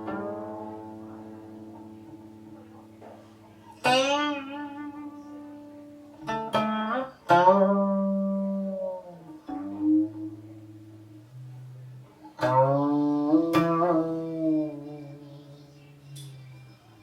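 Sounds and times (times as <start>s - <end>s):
zither plucked notes: 0.0s - 17.0s.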